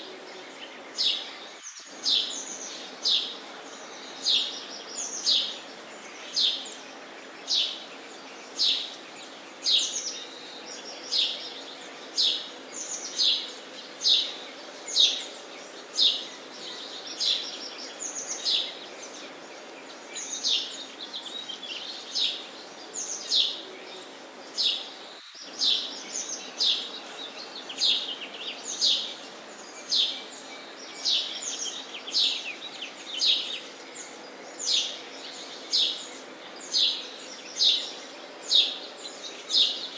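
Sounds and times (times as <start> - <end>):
low background hiss: 0.0 - 39.9
sparrows chirping: 0.0 - 39.9.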